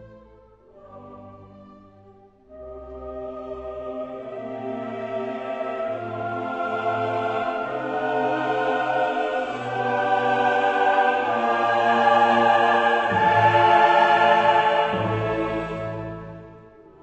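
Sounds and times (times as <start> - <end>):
slow music with sustained chords: 0.0 - 17.0.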